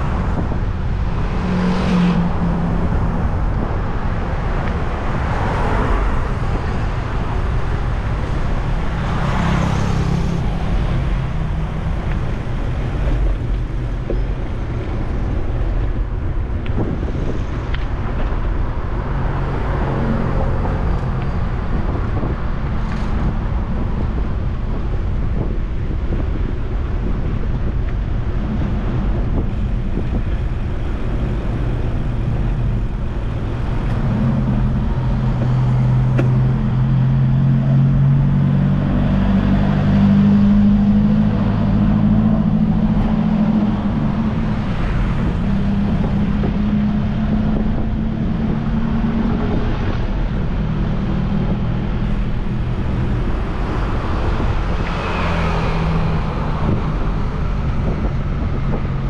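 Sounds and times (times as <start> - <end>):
approaching vehicle engine hum: 0.0 - 59.0
road traffic: 0.0 - 59.0.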